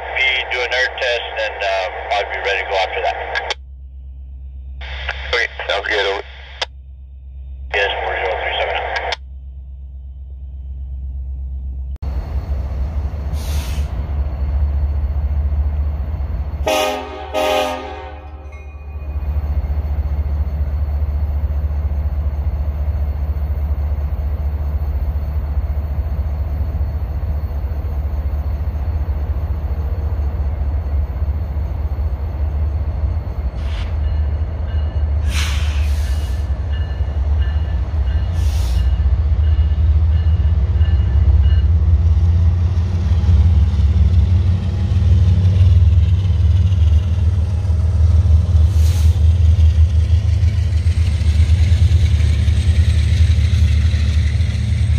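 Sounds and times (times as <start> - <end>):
locomotive engine rumble: 0.0 - 54.9.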